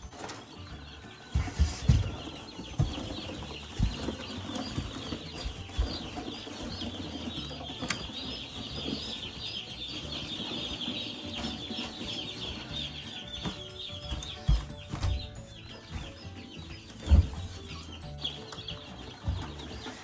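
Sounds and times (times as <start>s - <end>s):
boxes thumping: 0.0s - 20.0s
chicks peeping: 0.0s - 20.0s.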